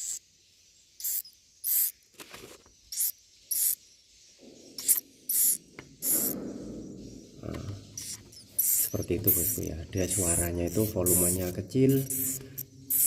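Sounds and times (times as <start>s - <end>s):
chicks cheeping: 0.0s - 2.1s, 2.8s - 13.0s.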